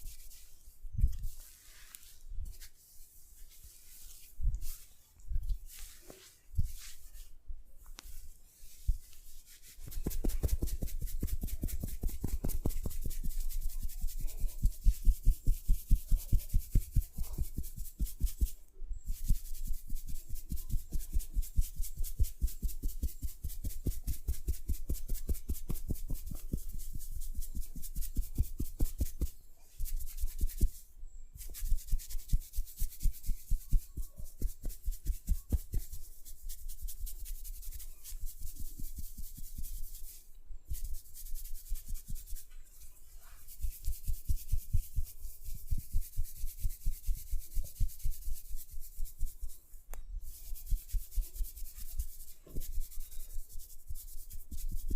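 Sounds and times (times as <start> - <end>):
hands rubbing hair and scalp: 0.0 - 54.9.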